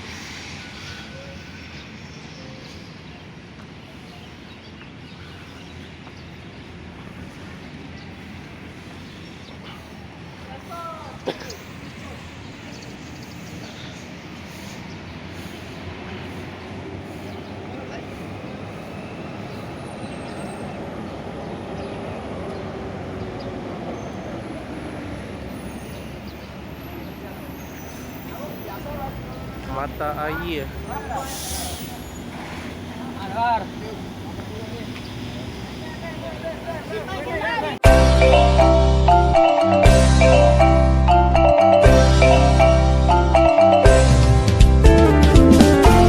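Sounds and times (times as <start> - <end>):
road noise: 0.0 - 46.0
vehicle engines rumbling: 0.0 - 46.0.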